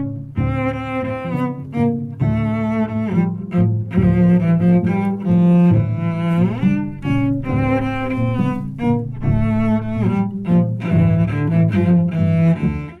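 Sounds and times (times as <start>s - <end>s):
low bowed strings melody: 0.0s - 13.0s.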